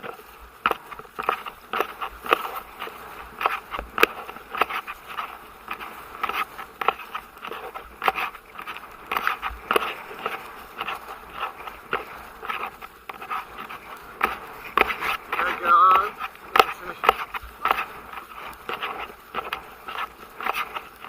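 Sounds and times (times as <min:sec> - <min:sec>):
horse hoofbeats galloping: 0:00.0 - 0:21.0.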